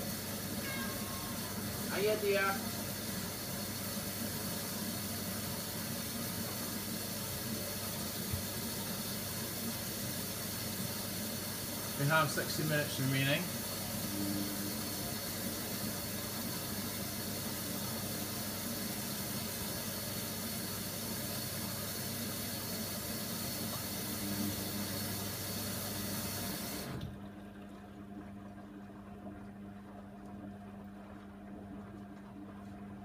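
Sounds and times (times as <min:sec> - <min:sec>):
water hissing into washing machine: 0:00.0 - 0:27.3.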